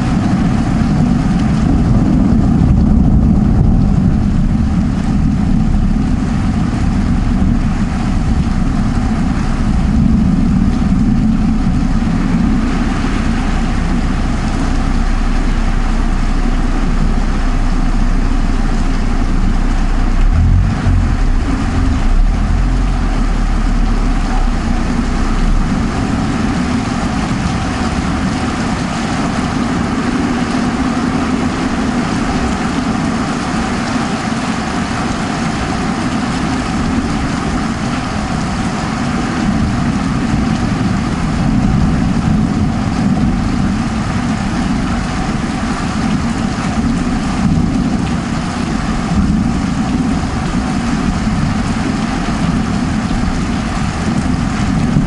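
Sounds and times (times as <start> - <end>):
heavy rain falling: 0.0 - 55.0
low rumble of thunder: 0.0 - 55.0.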